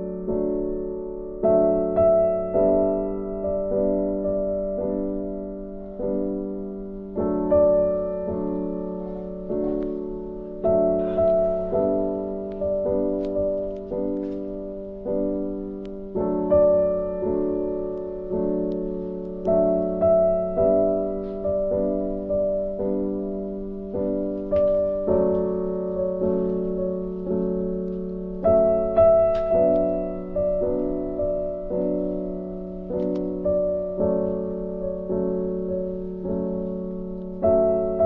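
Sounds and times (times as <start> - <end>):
slow gentle piano music: 0.0 - 38.0.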